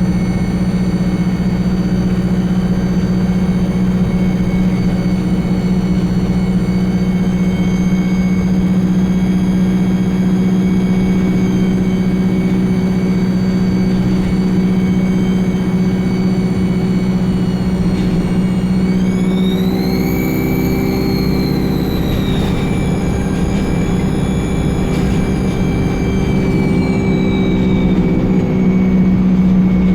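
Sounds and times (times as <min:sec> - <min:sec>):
bus diesel engine hum: 0:00.0 - 0:29.9
turbocharger whistle: 0:00.0 - 0:29.9.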